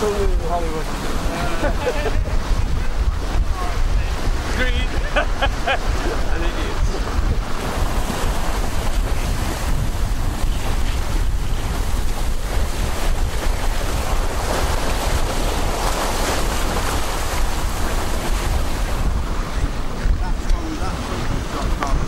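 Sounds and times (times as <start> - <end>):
bow wave and spray rushing: 0.0 - 22.0
wind buffeting microphone: 0.0 - 22.0.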